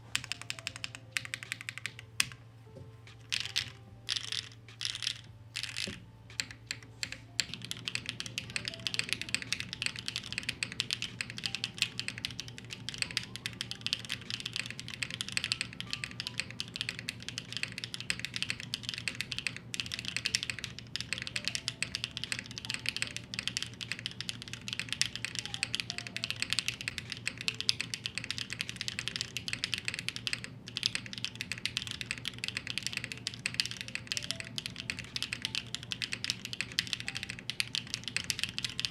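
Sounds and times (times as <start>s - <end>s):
mechanical keyboard typing: 0.0s - 2.4s, 3.1s - 38.9s.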